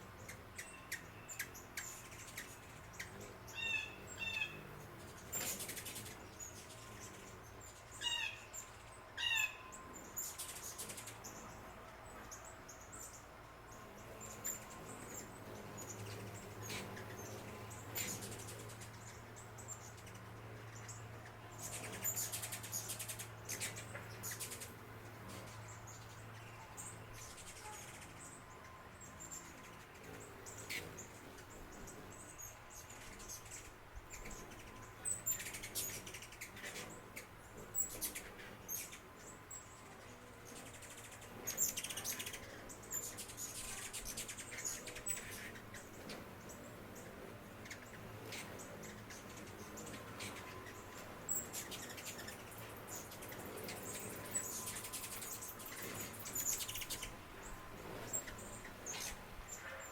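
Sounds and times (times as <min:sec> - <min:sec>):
faint low hum: 0:00.0 - 0:59.9
small birds chirping: 0:00.0 - 0:59.9.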